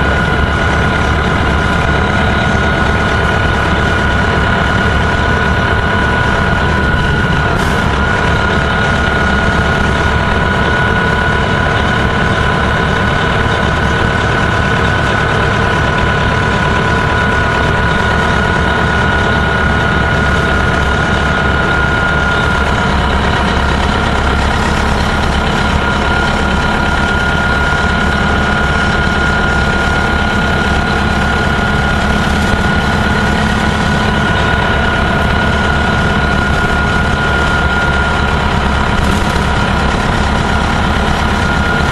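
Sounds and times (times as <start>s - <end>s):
bus diesel engine running: 0.0s - 41.9s
steady high whine: 0.0s - 41.9s.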